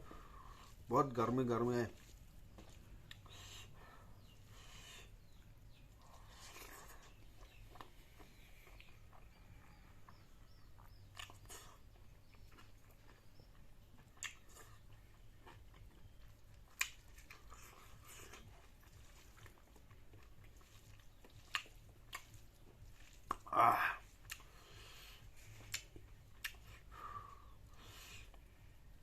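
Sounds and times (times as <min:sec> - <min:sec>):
person chewing food: 0:02.0 - 0:29.0.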